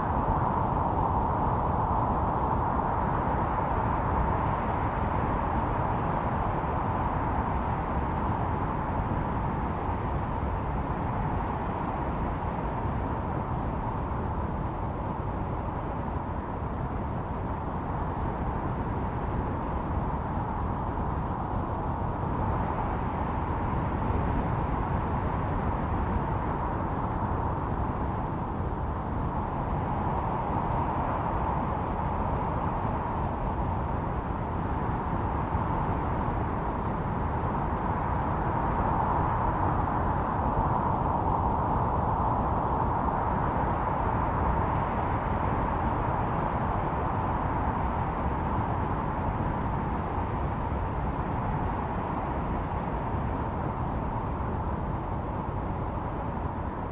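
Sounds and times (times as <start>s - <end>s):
blizzard wind howling: 0.0s - 56.9s.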